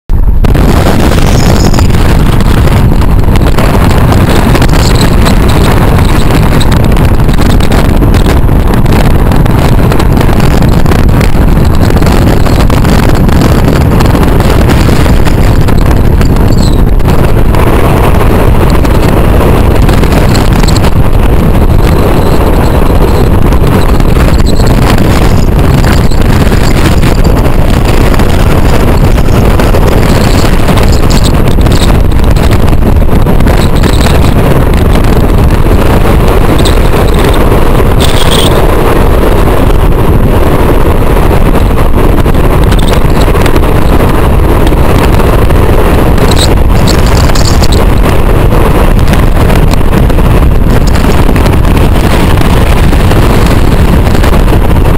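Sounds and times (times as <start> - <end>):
car driving on road: 0.1 - 54.9.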